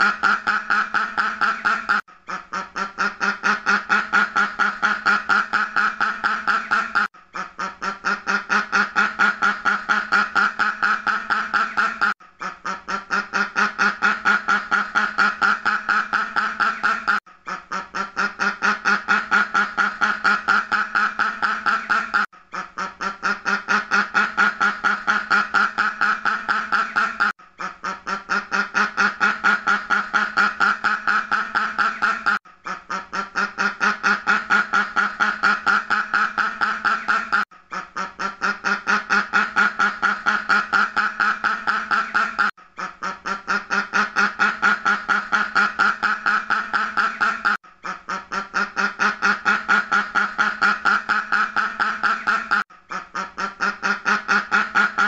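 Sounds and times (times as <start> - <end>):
duck quacking: 0.0 - 55.0.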